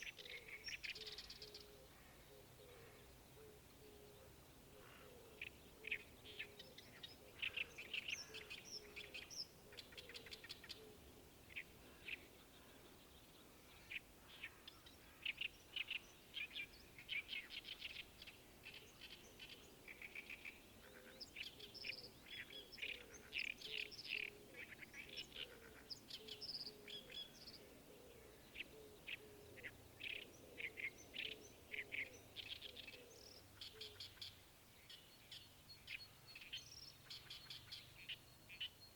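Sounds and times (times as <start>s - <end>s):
faint outdoor hush: 0.0s - 38.9s
small birds chirping: 0.0s - 38.9s.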